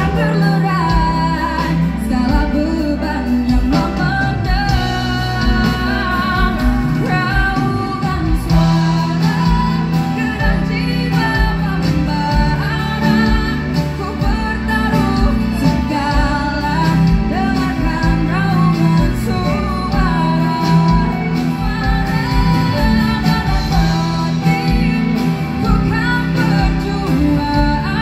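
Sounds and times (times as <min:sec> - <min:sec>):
live band playing: 0:00.0 - 0:28.0
woman singing: 0:00.0 - 0:28.0.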